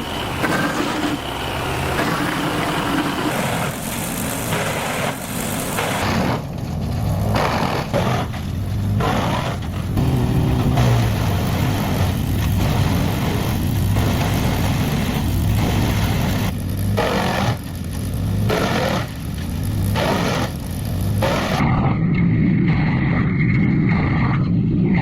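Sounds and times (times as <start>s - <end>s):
wood chipper engine: 0.0s - 21.6s
wood shredding bursts: 0.0s - 21.6s.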